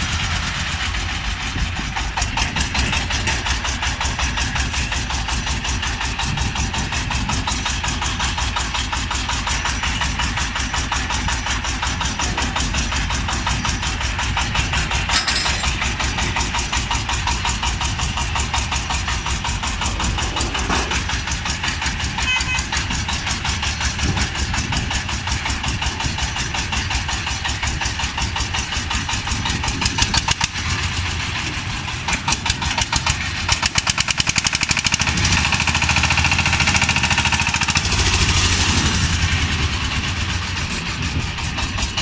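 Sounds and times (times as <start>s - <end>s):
diesel engine knocking: 0.0s - 42.0s.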